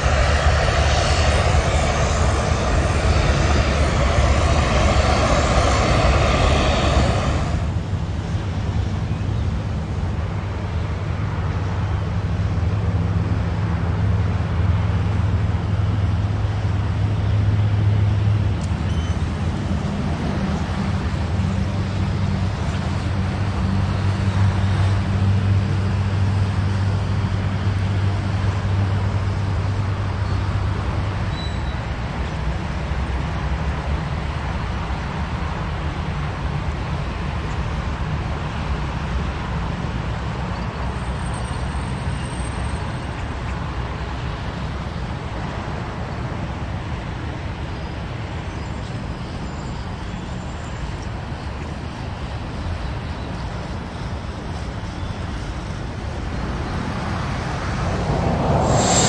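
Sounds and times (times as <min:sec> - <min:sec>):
aircraft engines rumbling: 0:00.0 - 0:59.0.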